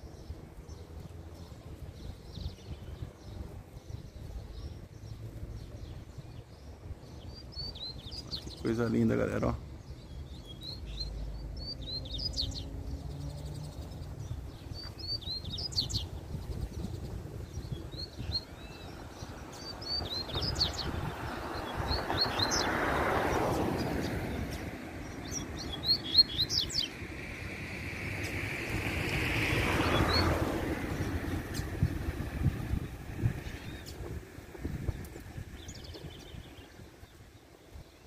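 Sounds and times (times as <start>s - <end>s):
bird chirping: 0.0s - 38.0s.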